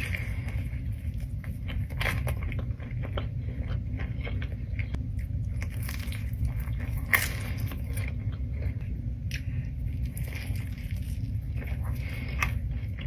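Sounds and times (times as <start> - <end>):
person chewing crunchy food: 0.0 - 13.0
steady low hum: 0.0 - 13.0.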